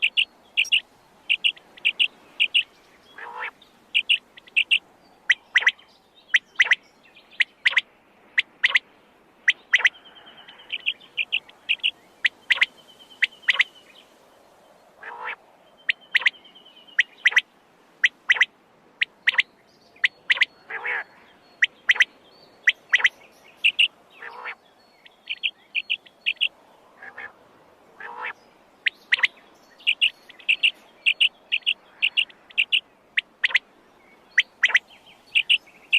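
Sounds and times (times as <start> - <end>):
quail calling: 0.0 - 6.8, 7.4 - 7.8, 8.4 - 8.8, 9.5 - 13.7, 15.0 - 16.4, 17.0 - 17.4, 18.0 - 24.6, 25.3 - 27.4, 28.0 - 33.6, 34.3 - 35.6.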